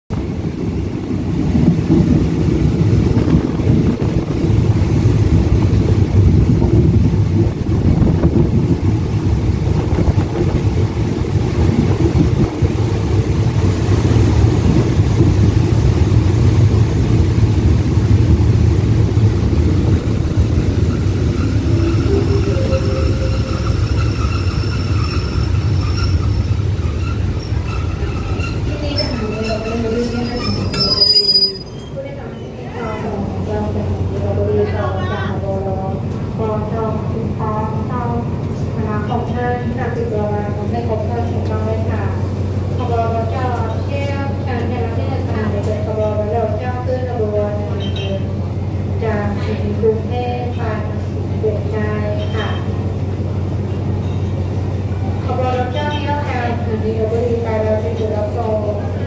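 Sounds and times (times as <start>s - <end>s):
train wheels rumbling on rail: 0.1s - 59.0s.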